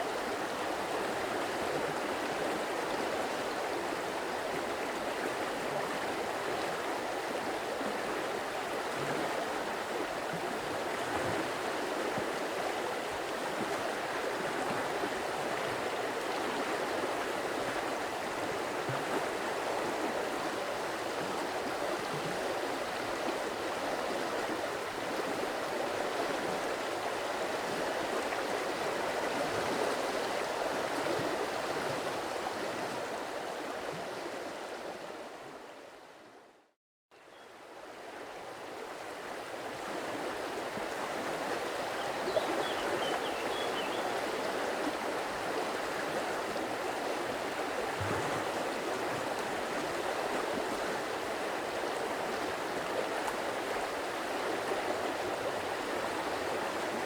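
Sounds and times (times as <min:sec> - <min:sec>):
flowing stream: 0:00.0 - 0:36.6, 0:37.2 - 0:57.0.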